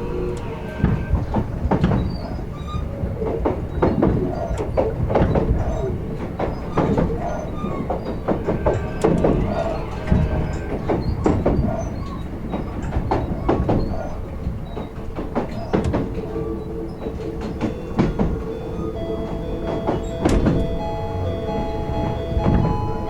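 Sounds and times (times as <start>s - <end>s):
train wheels knocking over rail joints: 0.0s - 23.0s.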